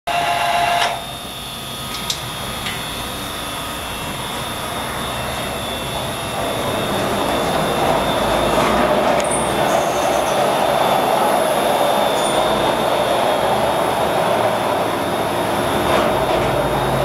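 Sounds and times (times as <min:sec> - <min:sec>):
vacuum pump whirring hum: 0:00.1 - 0:17.0.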